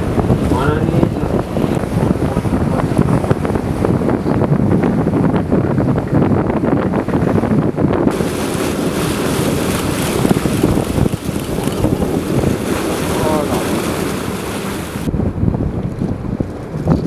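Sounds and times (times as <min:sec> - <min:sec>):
waves washing against hull: 0:00.0 - 0:17.0
wind buffeting microphone: 0:00.0 - 0:17.0.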